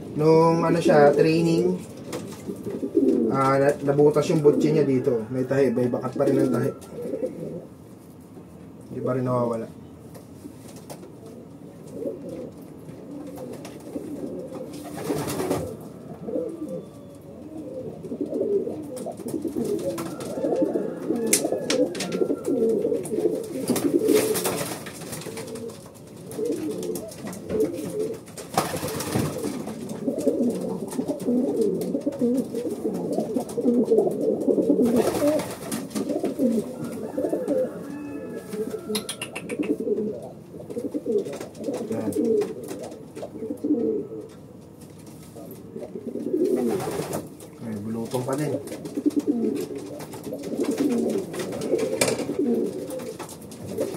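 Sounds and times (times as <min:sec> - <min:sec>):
pigeons cooing: 0:00.0 - 0:08.3, 0:11.0 - 0:53.9.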